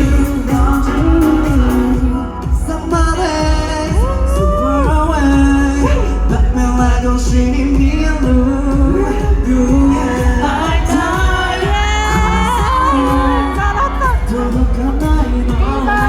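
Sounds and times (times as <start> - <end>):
male vocal group singing: 0.0 - 16.0
pop track with heavy bass: 0.0 - 16.0.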